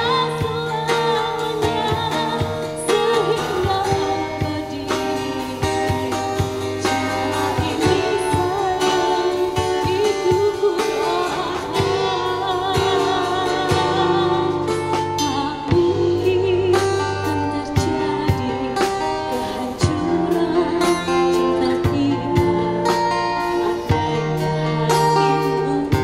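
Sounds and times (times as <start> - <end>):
live band playing: 0.0 - 26.0
woman singing into microphone: 0.0 - 26.0.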